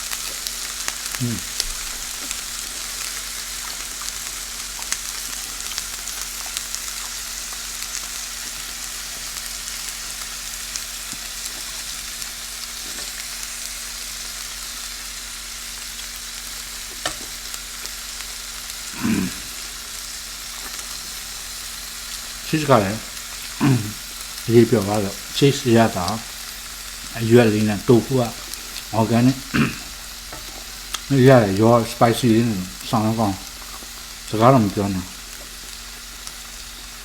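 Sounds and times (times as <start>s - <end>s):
tofu sizzling in hot oil: 0.0s - 37.0s.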